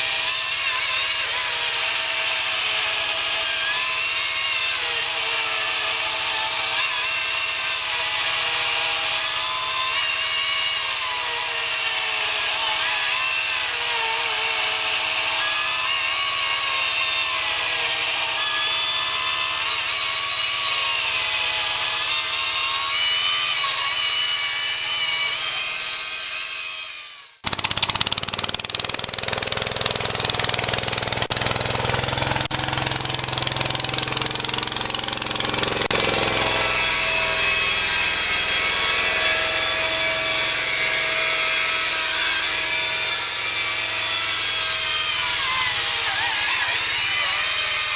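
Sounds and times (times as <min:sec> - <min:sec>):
power tool motor running: 0:00.0 - 0:47.9
rough noisy machine: 0:00.0 - 0:47.9.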